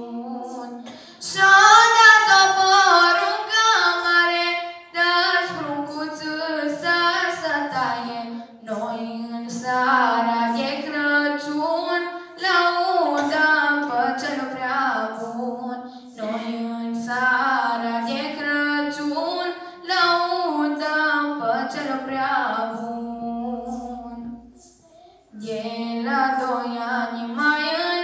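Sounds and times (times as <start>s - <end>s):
woman singing unaccompanied: 0.0s - 24.7s, 25.3s - 28.0s.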